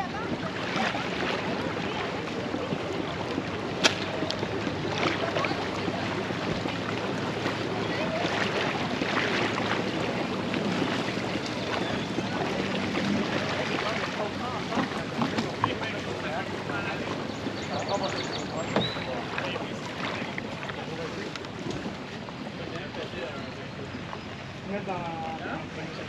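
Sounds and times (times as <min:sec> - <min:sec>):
water splashing against kayak hull: 0:00.0 - 0:26.0.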